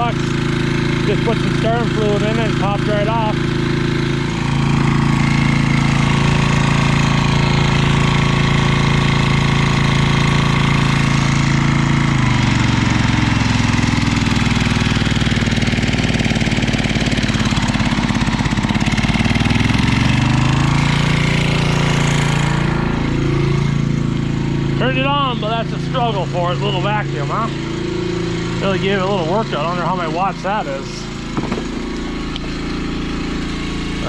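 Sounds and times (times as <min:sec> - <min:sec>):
generator engine running: 0:00.0 - 0:34.0.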